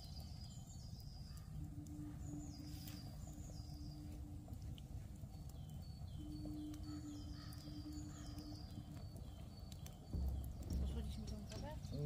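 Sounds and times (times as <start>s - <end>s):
songbirds singing: 0.0s - 12.0s
low background rumble: 0.8s - 12.0s.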